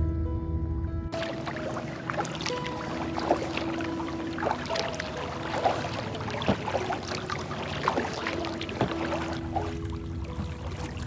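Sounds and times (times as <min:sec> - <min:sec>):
paddle strokes in water: 0:01.2 - 0:11.0
small water splashes: 0:01.2 - 0:11.0
water dripping off paddle: 0:01.2 - 0:11.0.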